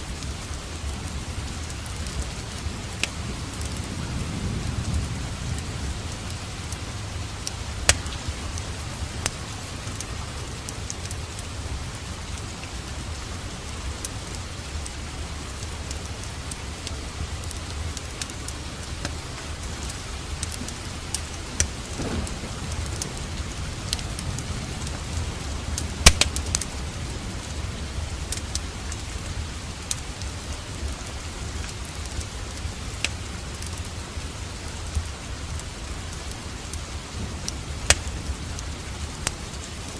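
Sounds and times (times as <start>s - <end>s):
steady rain: 0.0s - 39.9s
wood fire crackling and popping: 0.1s - 39.9s.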